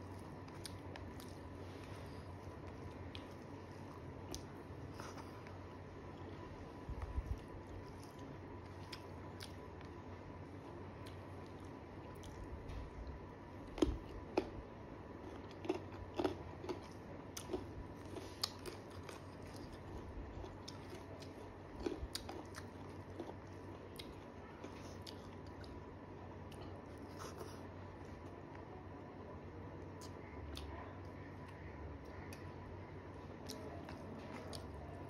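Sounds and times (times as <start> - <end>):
chewing rice: 0.0 - 10.0, 10.9 - 14.6, 15.2 - 28.6, 33.4 - 35.0.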